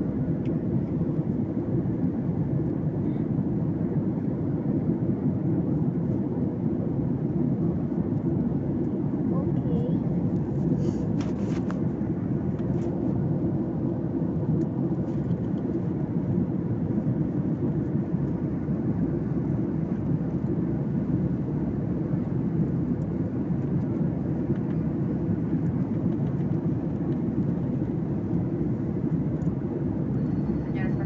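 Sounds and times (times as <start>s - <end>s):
airliner cabin noise: 0.0s - 31.0s.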